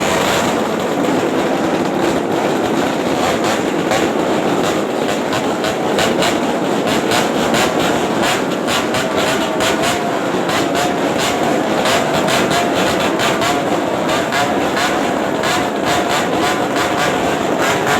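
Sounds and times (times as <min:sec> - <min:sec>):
exhaust crackles: 0:00.0 - 0:17.9
motorcycle engine through racing exhaust: 0:00.0 - 0:17.9.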